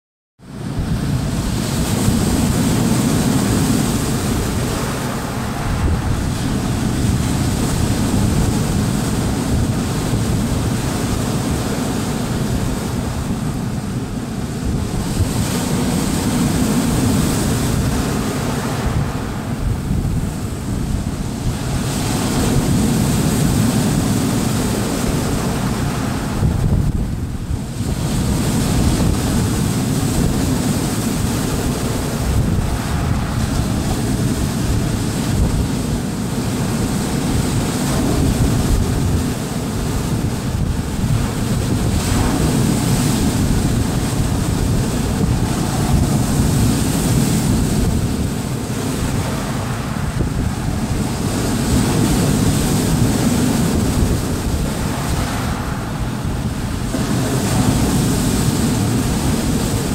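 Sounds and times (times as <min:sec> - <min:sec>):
waves breaking on rocky shore: 0:00.5 - 0:59.9
wind buffeting microphone: 0:00.5 - 0:59.9.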